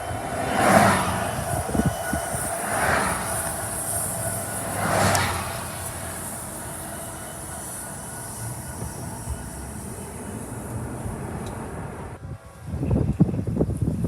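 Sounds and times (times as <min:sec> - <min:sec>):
train wheels on rails: 0:00.0 - 0:12.2.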